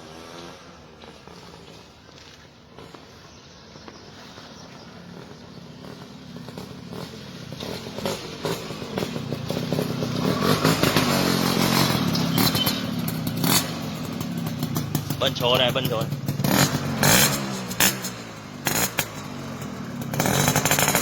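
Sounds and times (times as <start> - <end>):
exhaust crackles: 0.0 - 21.0
two-stroke motorcycle running: 4.2 - 21.0.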